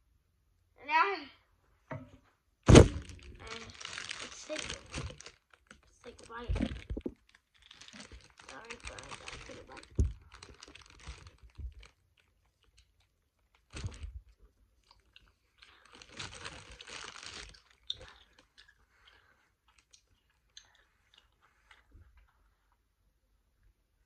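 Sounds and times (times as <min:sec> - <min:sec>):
child chewing gummy candy: 0:03.0 - 0:22.9.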